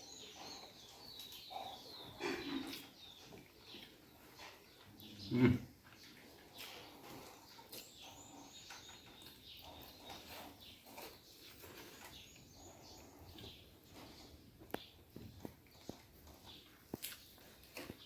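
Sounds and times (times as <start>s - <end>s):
person chewing food: 0.6s - 18.0s.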